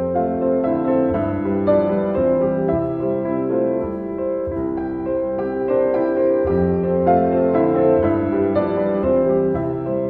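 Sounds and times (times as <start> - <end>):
piano background music: 0.0 - 10.0.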